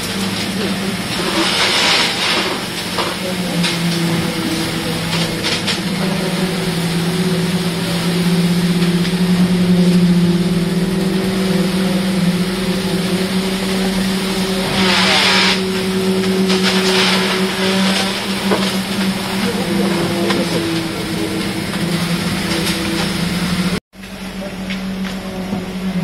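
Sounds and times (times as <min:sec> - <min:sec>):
concrete vibrator machine drone: 0:00.0 - 0:26.0.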